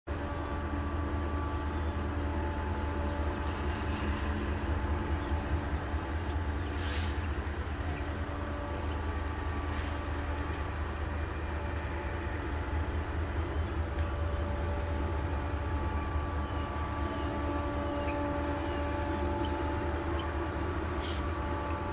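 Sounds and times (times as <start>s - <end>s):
train wheels rumbling on rails: 0.1s - 21.9s.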